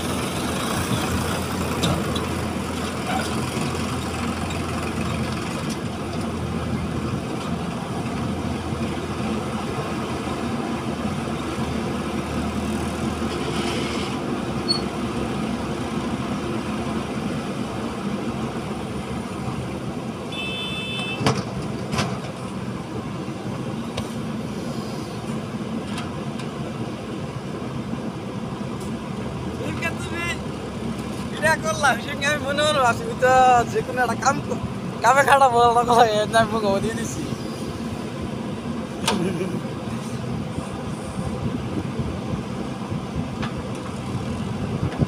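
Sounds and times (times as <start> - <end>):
diesel engines running: 0.0 - 45.0.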